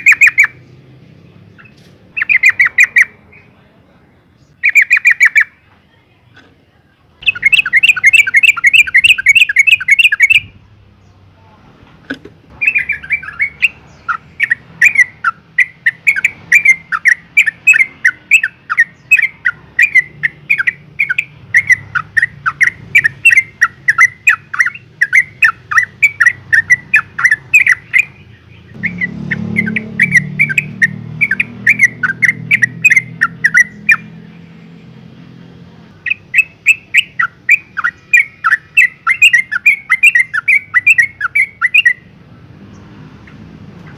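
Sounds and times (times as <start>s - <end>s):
bird chattering call: 0.0s - 0.8s, 1.5s - 3.6s, 4.4s - 5.6s, 7.2s - 10.6s, 12.5s - 34.4s, 36.0s - 42.1s.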